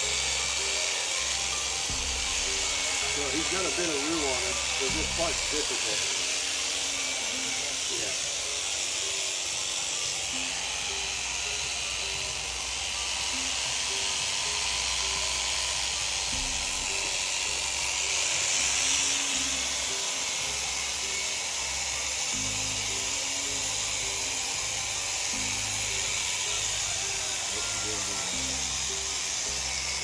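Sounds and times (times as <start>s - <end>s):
electric shears buzzing: 0.0s - 30.0s.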